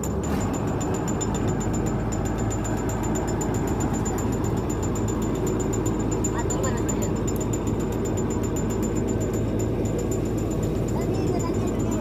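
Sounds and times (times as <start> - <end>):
diesel engine humming: 0.0 - 12.0
fast regular ticking: 0.0 - 12.0.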